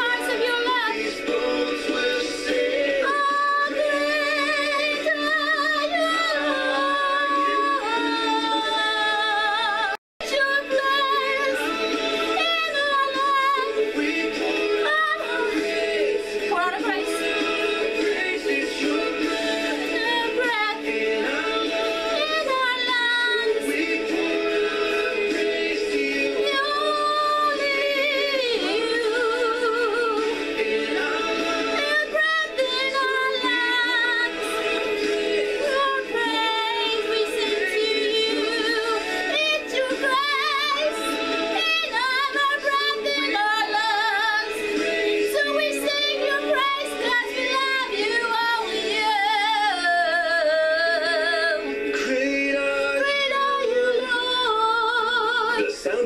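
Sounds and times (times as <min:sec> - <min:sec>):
woman singing with vibrato: 0:00.0 - 0:55.9.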